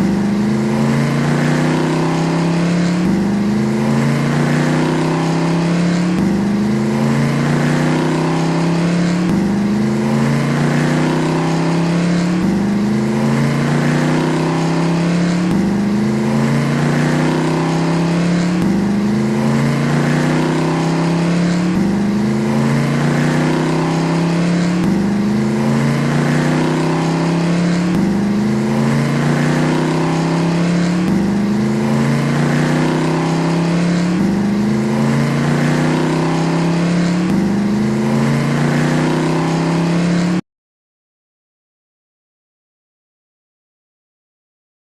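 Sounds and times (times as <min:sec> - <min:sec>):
car engine accelerating: 0:00.0 - 0:40.4.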